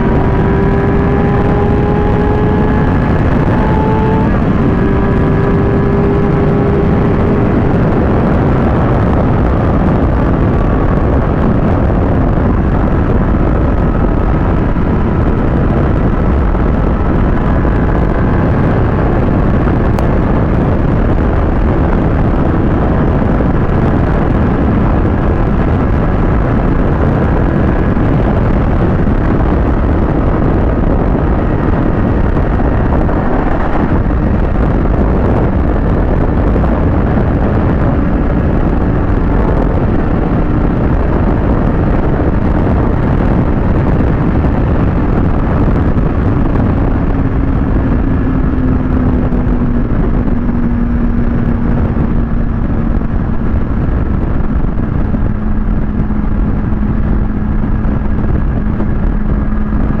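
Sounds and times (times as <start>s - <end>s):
motorcycle engine running: 0.0s - 60.0s
wind rush on microphone: 0.0s - 60.0s.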